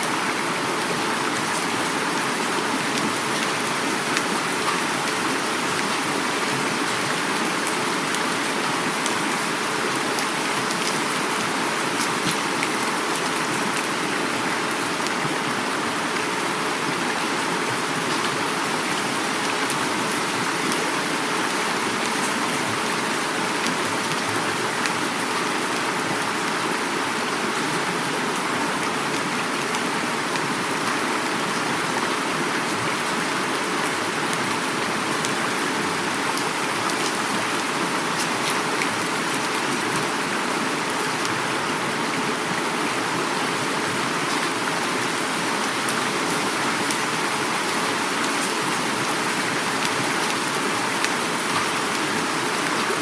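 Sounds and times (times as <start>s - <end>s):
flowing river rushing: 0.0s - 53.0s
heavy rain: 0.0s - 53.0s.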